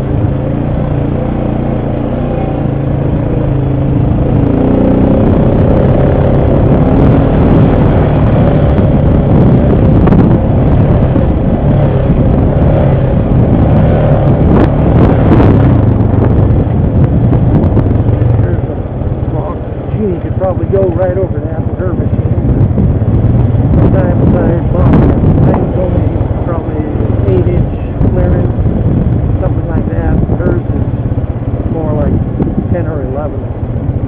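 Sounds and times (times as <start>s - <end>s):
atv engine running under load: 0.0s - 34.0s.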